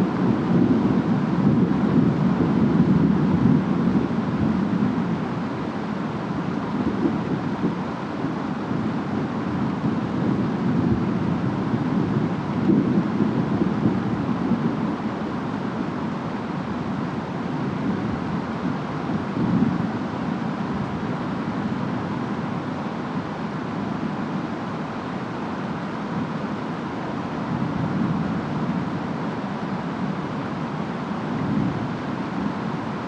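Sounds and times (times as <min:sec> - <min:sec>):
rain and wind: 0:00.0 - 0:33.0.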